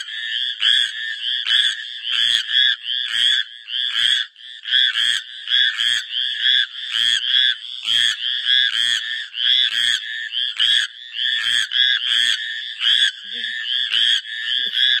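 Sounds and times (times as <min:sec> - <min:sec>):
tree frog croaking: 0:00.0 - 0:15.0.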